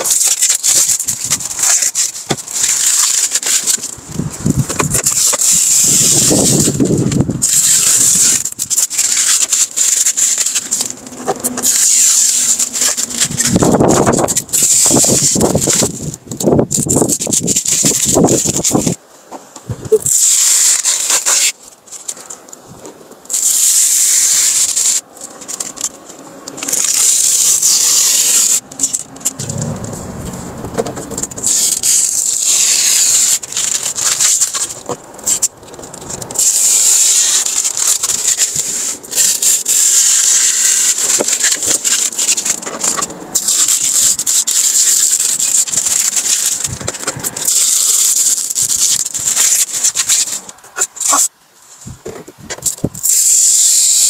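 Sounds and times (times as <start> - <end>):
plastic film peeling off: 0.0 - 19.0, 19.8 - 51.3.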